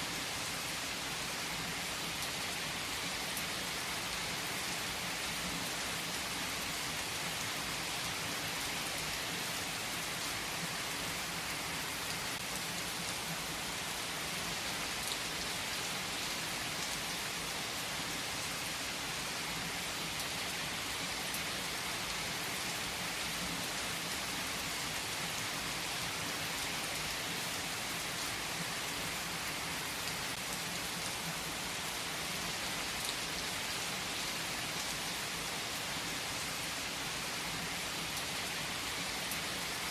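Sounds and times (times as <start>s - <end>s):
rain pattering on surfaces: 1.8s - 39.9s.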